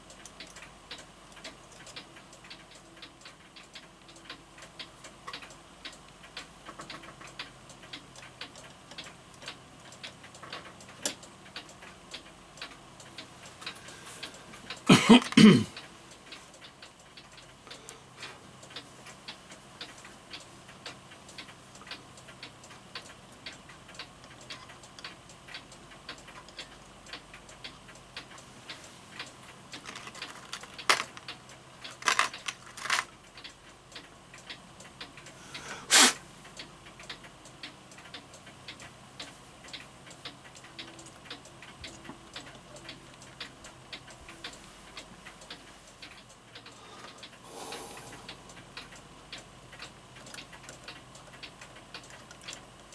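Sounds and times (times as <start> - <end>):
clock ticking: 0.0 - 52.9.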